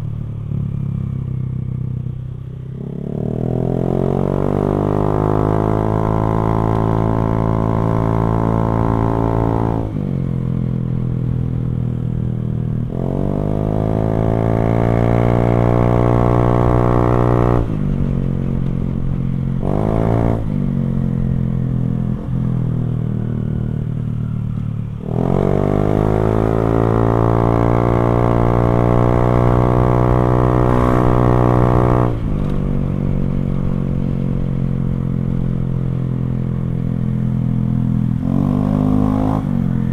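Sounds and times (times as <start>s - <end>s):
motorcycle accelerating: 0.0s - 39.9s.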